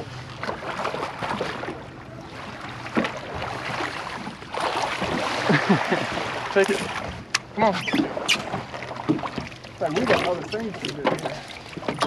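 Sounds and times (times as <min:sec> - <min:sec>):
knocks and splashes: 0:00.0 - 0:12.0
outboard motor running: 0:00.0 - 0:12.0
water against hull: 0:00.0 - 0:12.0.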